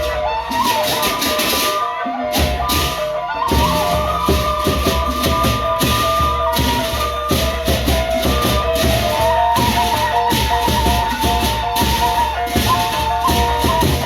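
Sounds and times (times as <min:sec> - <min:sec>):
big drums beating: 0:00.0 - 0:14.0
cymbals clashing: 0:00.0 - 0:14.0
held melodic line: 0:00.0 - 0:14.0.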